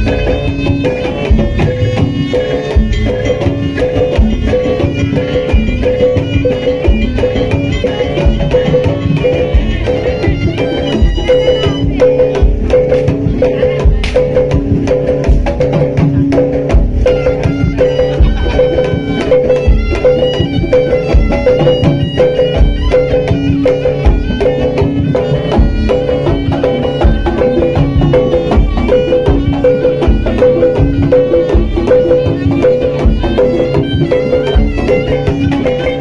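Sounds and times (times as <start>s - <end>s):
shrill reed-pipe melody: 0.0s - 14.0s, 16.2s - 36.0s
drums: 0.0s - 36.0s.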